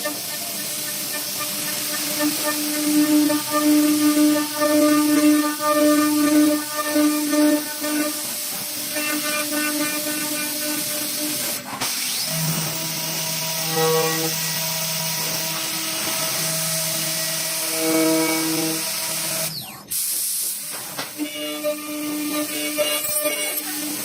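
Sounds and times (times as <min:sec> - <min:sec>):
lathe motor whine: 0:00.0 - 0:19.7
hiss of wood cutting: 0:00.0 - 0:24.0.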